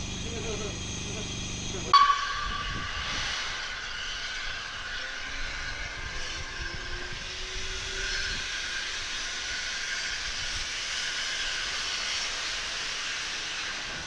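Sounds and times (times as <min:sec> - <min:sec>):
steam hissing: 0:00.0 - 0:04.6, 0:07.2 - 0:14.0.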